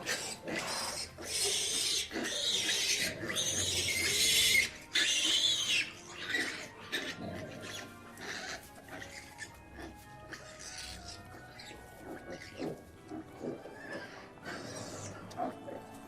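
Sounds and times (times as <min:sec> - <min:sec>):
background music: 0:00.0 - 0:16.0
pig squealing: 0:00.0 - 0:16.0.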